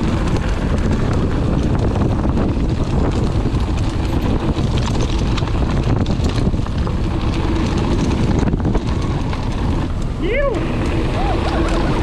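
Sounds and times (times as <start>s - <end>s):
tyres crunching on gravel: 0.0s - 12.0s
wind on microphone: 0.0s - 12.0s.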